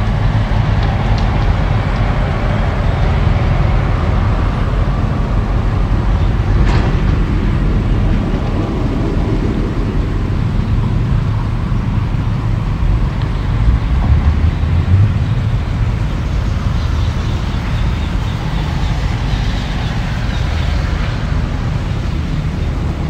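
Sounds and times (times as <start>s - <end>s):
diesel engines rumbling: 0.0s - 23.0s.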